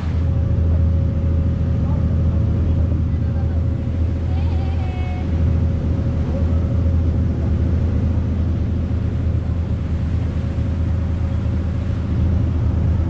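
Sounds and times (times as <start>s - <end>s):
boat engine droning: 0.0s - 13.0s
water rushing past hull: 0.0s - 13.0s.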